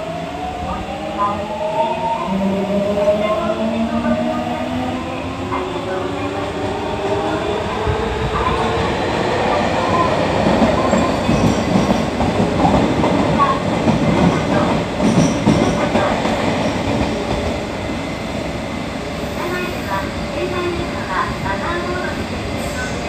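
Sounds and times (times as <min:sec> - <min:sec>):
train wheels rumbling on rails: 0:02.0 - 0:23.0.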